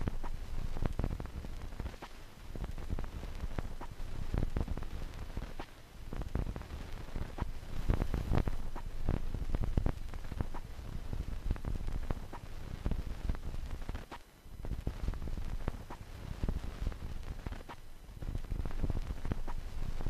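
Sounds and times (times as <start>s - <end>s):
crackling clicks: 0.0s - 20.0s.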